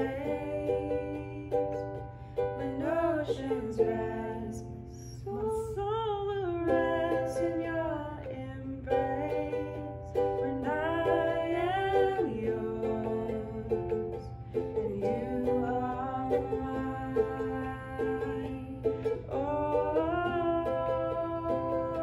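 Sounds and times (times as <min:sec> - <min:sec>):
acoustic guitar: 0:00.0 - 0:22.0
woman singing slowly: 0:00.0 - 0:22.0.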